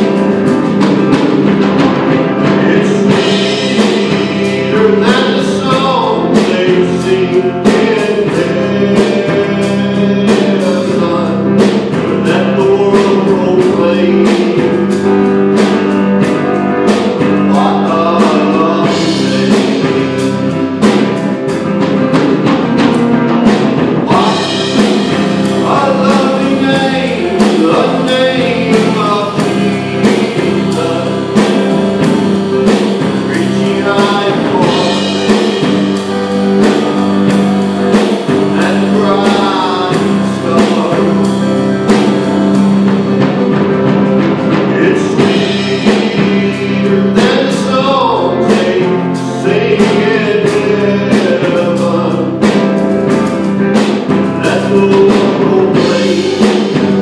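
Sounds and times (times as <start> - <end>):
drum kit beat: 0.0 - 57.0
person singing: 0.0 - 57.0
strummed guitar: 0.0 - 57.0.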